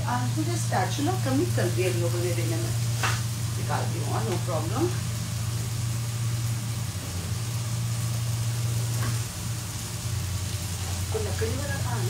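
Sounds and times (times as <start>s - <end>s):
low motor hum: 0.0s - 12.0s
spices frying hiss: 0.0s - 12.0s.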